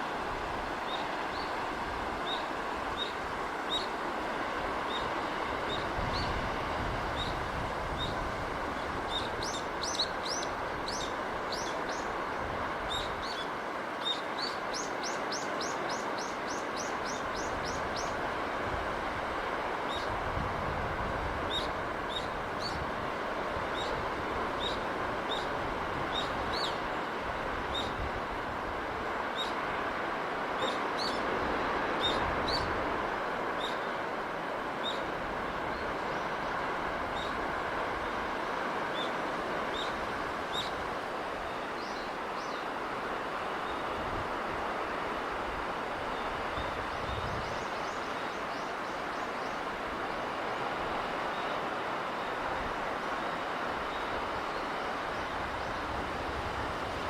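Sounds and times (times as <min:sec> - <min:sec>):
wind and sea rushing: 0:00.0 - 0:57.0.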